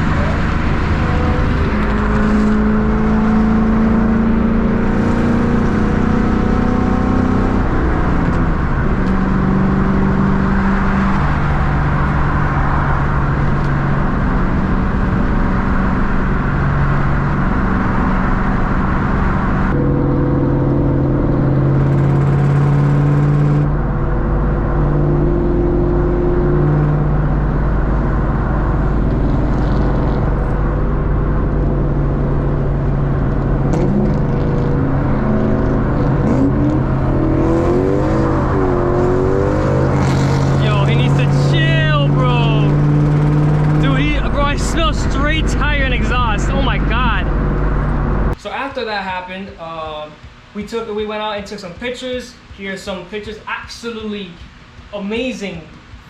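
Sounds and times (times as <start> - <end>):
car engine revving while driving: 0.0 - 48.4
road noise: 0.0 - 56.0.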